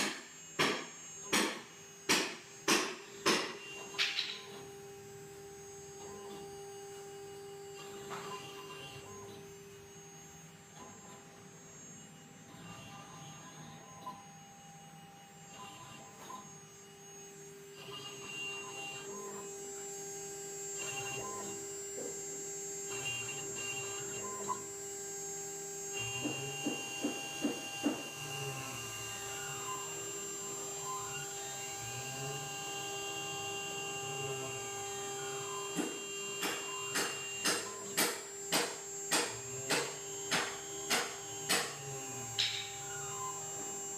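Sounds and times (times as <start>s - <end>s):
engraving spindle humming: 0.0s - 43.9s.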